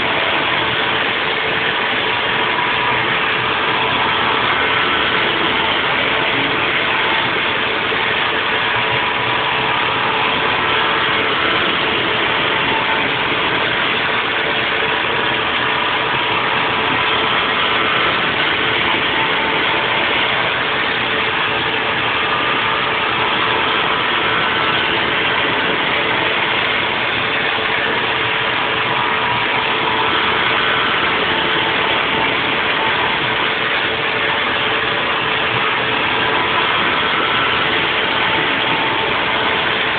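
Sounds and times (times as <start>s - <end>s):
faint steady tones: 0.0s - 39.9s
milling machine cutting: 0.0s - 39.9s.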